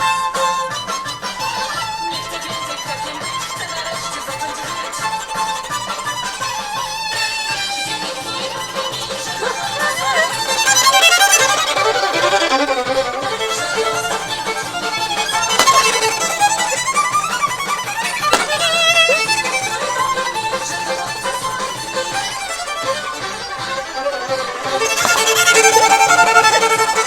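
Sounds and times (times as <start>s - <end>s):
solo violin melody: 0.0s - 27.0s.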